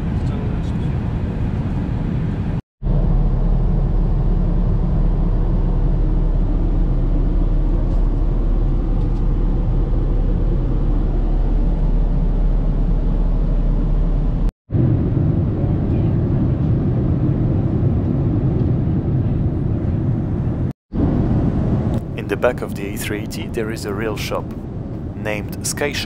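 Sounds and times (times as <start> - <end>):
deep hum: 0.0 - 25.9
low rumble: 0.0 - 26.0
rush of cabin air: 0.0 - 26.0.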